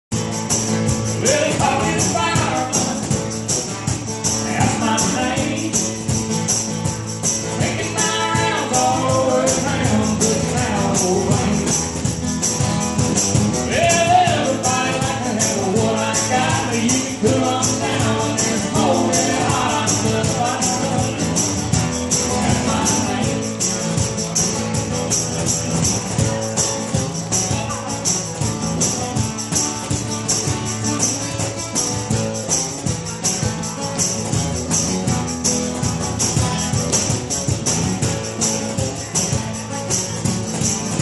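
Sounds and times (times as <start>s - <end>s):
crisp percussion beat: 0.1s - 41.0s
strummed acoustic guitar: 0.1s - 41.0s.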